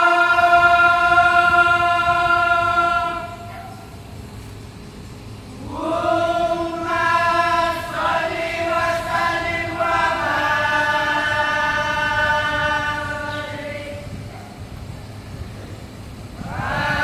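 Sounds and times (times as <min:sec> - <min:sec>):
voices chanting in unison: 0:00.0 - 0:04.1, 0:05.5 - 0:14.6, 0:16.3 - 0:17.0.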